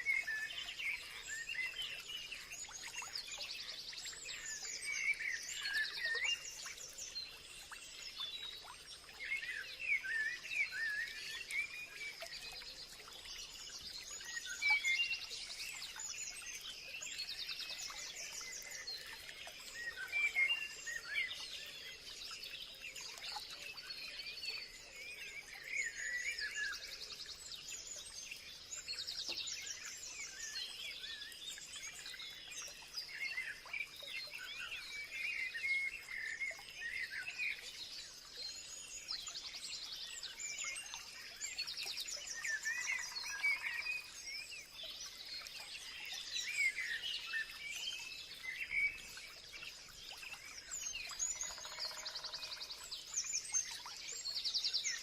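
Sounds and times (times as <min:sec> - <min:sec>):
birds singing and chirping: 0:00.0 - 0:55.0.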